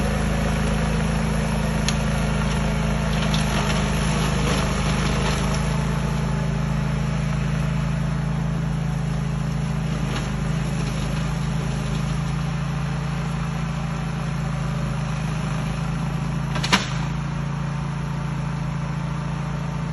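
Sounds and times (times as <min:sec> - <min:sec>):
mower engine running under load: 0:00.0 - 0:19.9.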